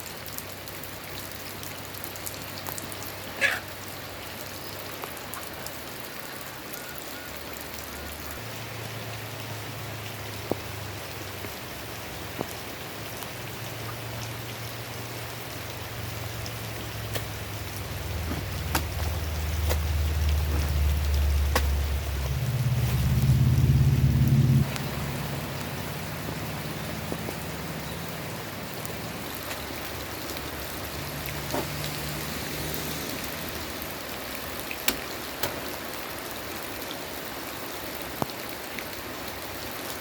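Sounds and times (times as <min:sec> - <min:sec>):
raindrops tapping: 0:00.0 - 0:36.9
steady rain: 0:00.0 - 0:40.0.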